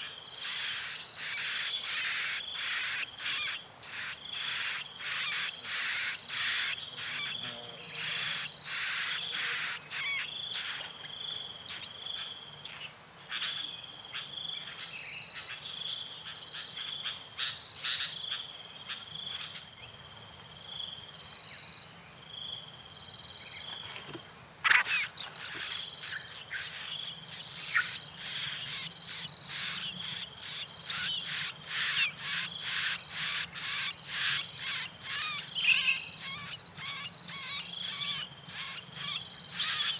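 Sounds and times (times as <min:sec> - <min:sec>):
insect drone: 0:00.0 - 0:39.9
insect pulsing rhythmically: 0:00.0 - 0:39.9.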